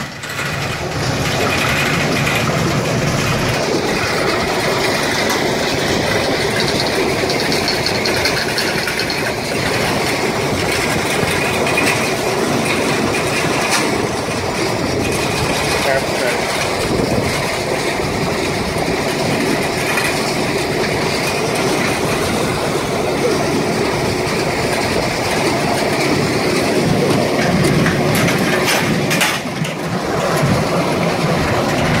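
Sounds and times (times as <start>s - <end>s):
baler running and rattling: 0.0s - 32.0s.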